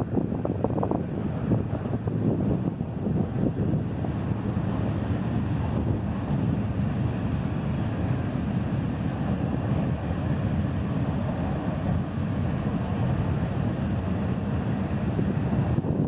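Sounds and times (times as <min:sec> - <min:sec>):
freight train rumbling past: 0:00.0 - 0:16.0
wind buffeting microphone: 0:00.0 - 0:16.0.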